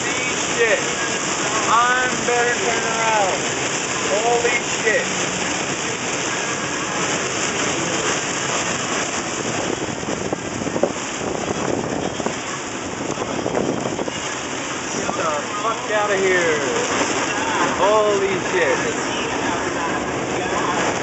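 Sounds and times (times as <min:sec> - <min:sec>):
heavy rain and wind on car: 0:00.0 - 0:21.0.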